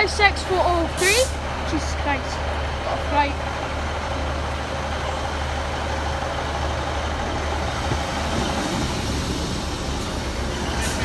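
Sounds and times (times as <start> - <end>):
train diesel engine droning: 0.0 - 11.0.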